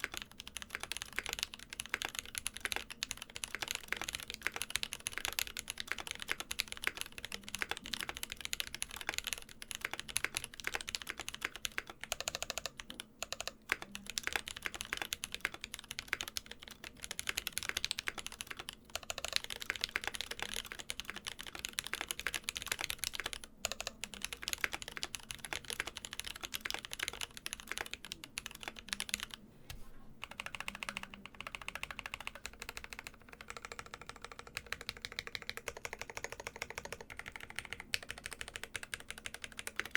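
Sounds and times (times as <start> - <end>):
mechanical keyboard typing: 0.0 - 29.4, 30.2 - 39.9.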